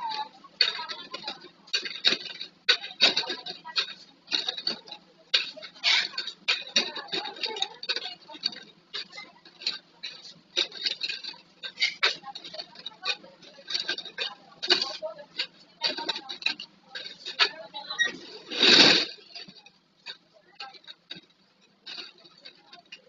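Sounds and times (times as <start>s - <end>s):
plastic bottles clattering: 0.0s - 23.0s.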